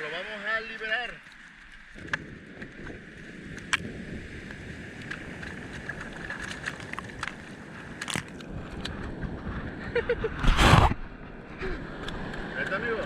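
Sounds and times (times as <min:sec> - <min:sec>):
wind rumbling on microphone: 0:01.4 - 0:13.0.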